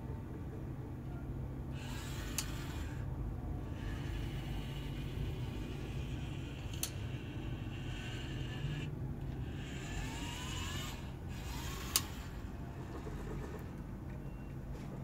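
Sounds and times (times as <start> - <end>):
steady low hum: 0.0 - 15.0
small electric motors whining: 1.7 - 13.8.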